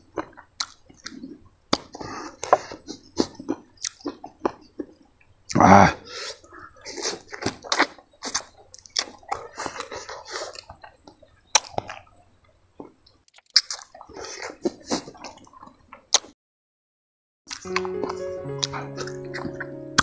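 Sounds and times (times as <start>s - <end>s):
wet chewing and lip-smacking: 0.0s - 5.0s, 6.6s - 12.2s, 12.8s - 16.3s, 17.5s - 19.6s.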